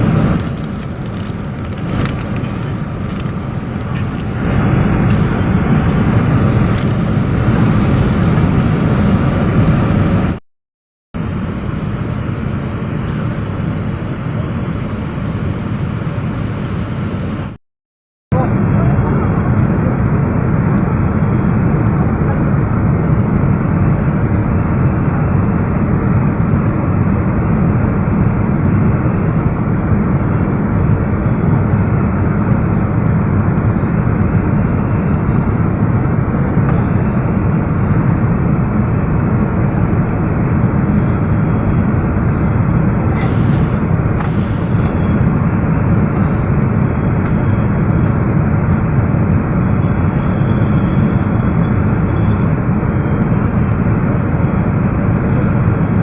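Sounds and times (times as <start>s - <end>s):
airliner cabin engine and airflow noise: 0.0s - 10.4s, 11.2s - 17.6s, 18.3s - 56.0s.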